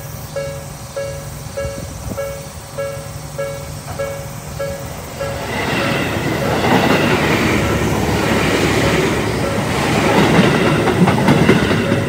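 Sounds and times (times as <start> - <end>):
level crossing warning bells: 0.0 - 12.0
train wheels clacking over rail joints: 0.4 - 12.0.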